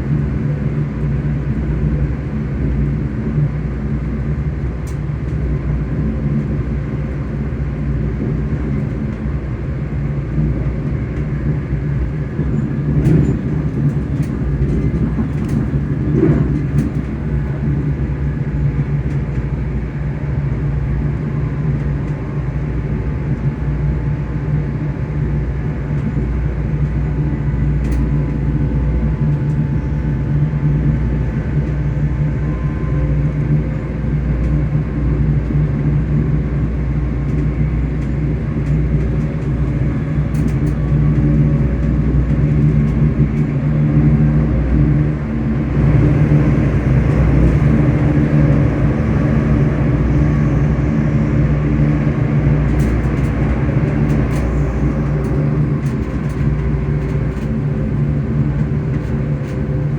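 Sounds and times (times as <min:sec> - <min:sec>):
train rumbling on rails: 0:00.0 - 0:59.9
train traction motors humming: 0:00.0 - 0:59.9.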